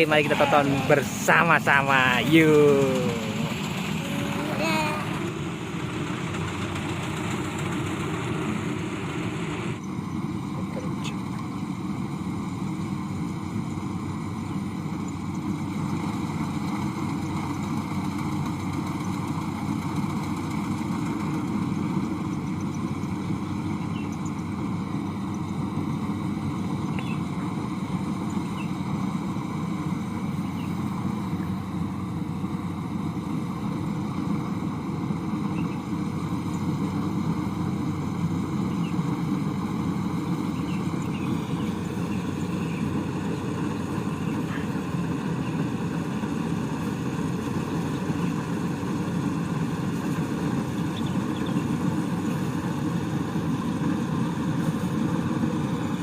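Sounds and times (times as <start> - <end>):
harvesting machine engine drone: 0.0 - 56.0.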